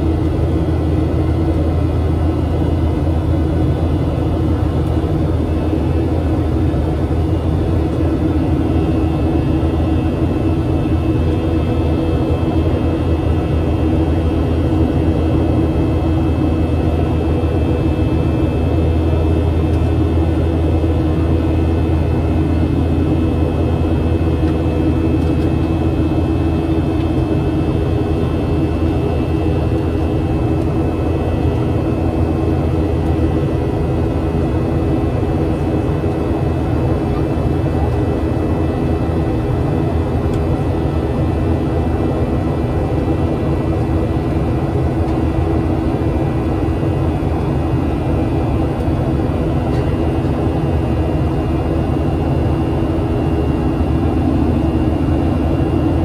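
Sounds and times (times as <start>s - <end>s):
airplane cabin jet engine drone: 0.0s - 56.0s.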